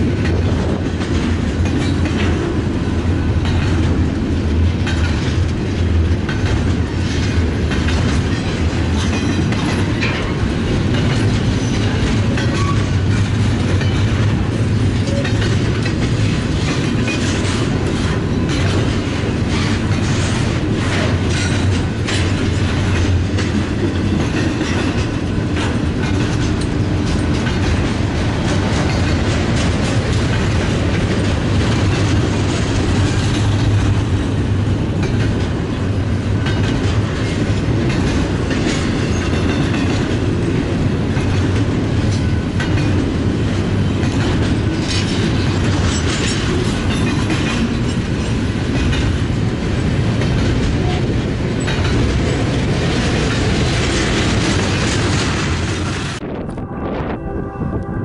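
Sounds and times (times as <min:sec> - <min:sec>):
steel wheels clacking over rail joints: 0:00.0 - 0:56.2
freight train rolling past: 0:00.0 - 0:58.0.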